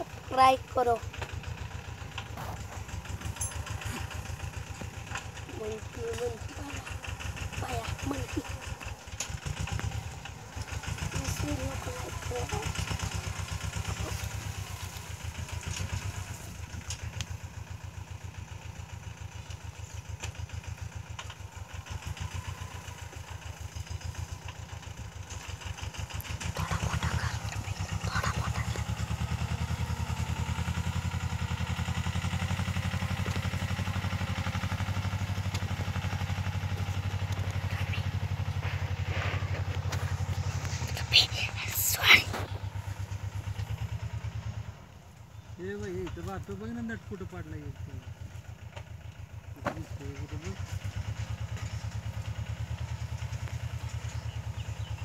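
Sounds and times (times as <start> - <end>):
tractor diesel engine chugging: 0.0 - 55.0.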